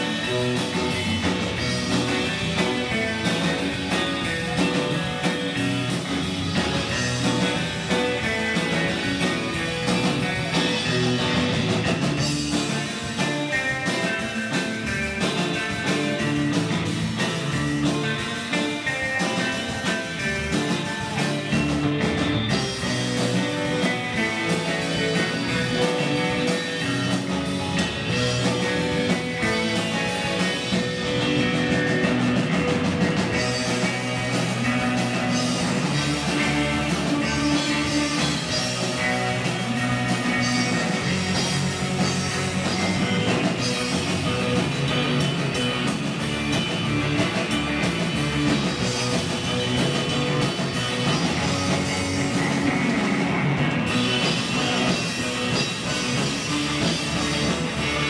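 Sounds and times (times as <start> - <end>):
drum kit: 0.0 - 58.0
electric guitars: 0.0 - 58.0.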